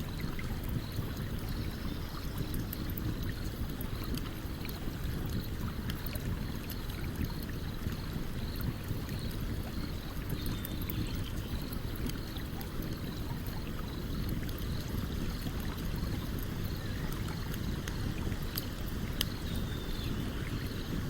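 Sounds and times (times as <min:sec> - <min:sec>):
campfire crackling and popping: 0:02.4 - 0:21.0.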